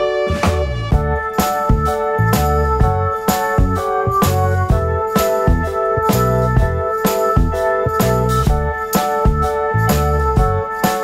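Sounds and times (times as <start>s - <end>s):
keyboard tune with bass and beat: 0.0s - 11.0s.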